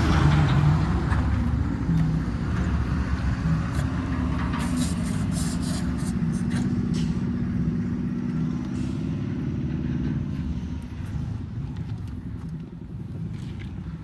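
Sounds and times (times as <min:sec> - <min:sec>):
diesel engine under load: 0:00.0 - 0:14.0.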